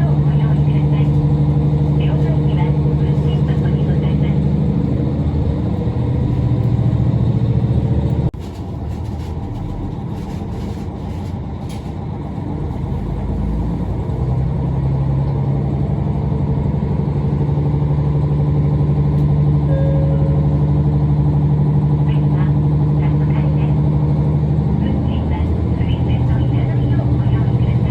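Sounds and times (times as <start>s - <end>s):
diesel railcar engine drone: 0.0s - 27.9s.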